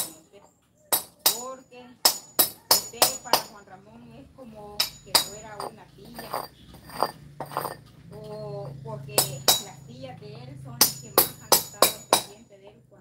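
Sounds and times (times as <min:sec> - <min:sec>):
sharp metallic clinks: 0:00.0 - 0:03.7, 0:04.8 - 0:09.9, 0:10.8 - 0:12.4.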